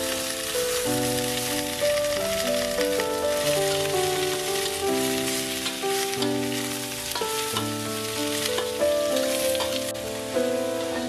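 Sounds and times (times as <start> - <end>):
instrumental background music: 0.0 - 11.0
vegetables sizzling in a wok: 0.0 - 11.0.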